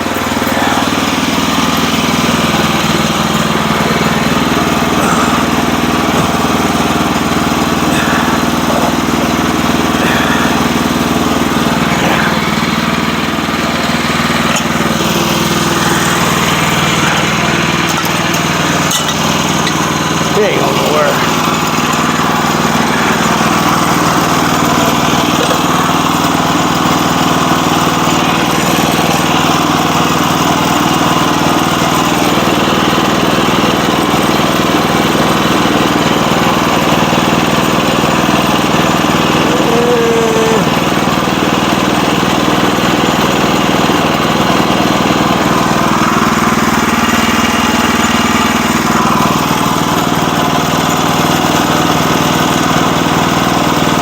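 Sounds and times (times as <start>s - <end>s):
saw cutting through log: 0.0s - 54.0s
small gas engine running: 0.0s - 54.0s.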